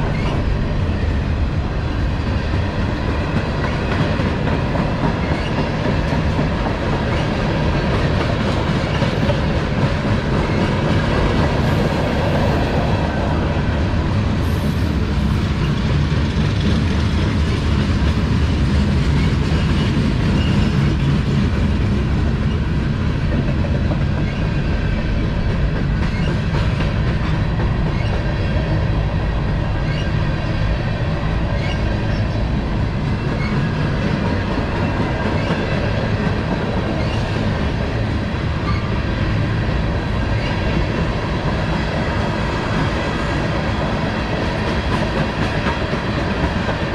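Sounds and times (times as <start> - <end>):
freight train cars rolling: 0.0 - 46.9.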